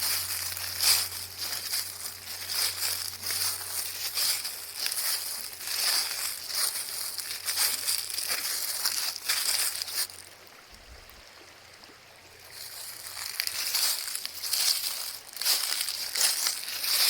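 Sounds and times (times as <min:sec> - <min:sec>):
dry leaves rustling and crackling: 0:00.0 - 0:10.5, 0:12.4 - 0:17.0.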